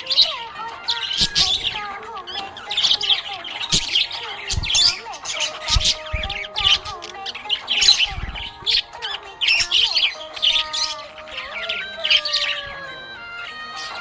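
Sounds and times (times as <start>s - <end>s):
budgerigar chirping: 0.0s - 14.0s
soft background music: 0.0s - 14.0s.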